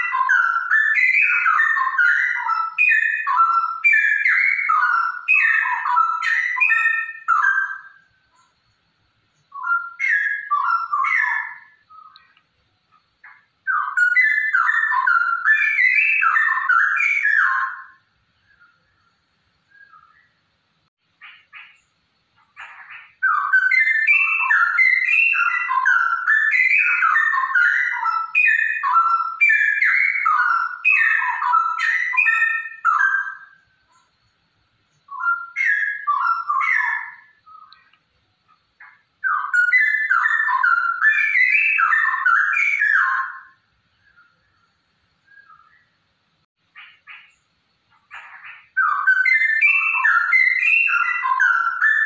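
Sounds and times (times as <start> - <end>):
bird warbling song: 0.0 - 46.0, 46.6 - 52.0.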